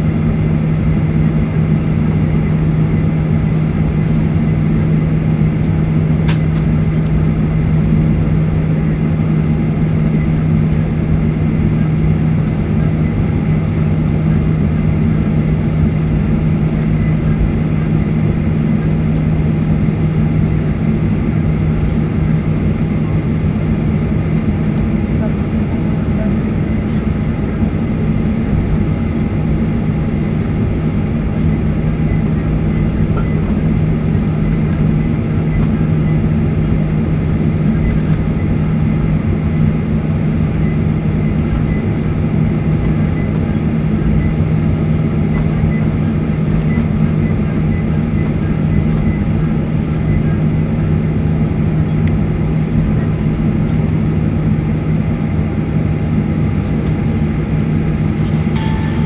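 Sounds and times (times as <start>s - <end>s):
jet engines droning at idle: 0.0s - 59.0s.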